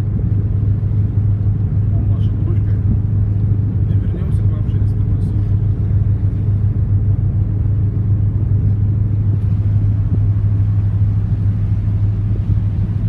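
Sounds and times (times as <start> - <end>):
ship engine drone: 0.0 - 13.0.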